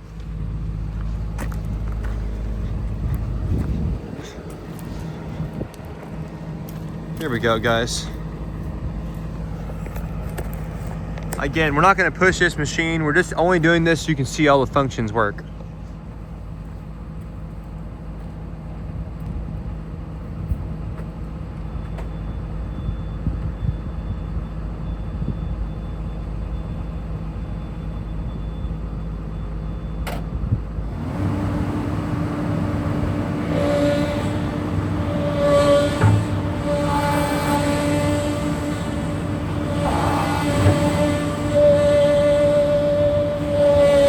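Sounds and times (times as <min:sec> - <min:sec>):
hydraulic whine: 0:00.0 - 0:14.2, 0:21.5 - 0:44.0
diesel engine running: 0:00.0 - 0:23.2, 0:30.6 - 0:44.0.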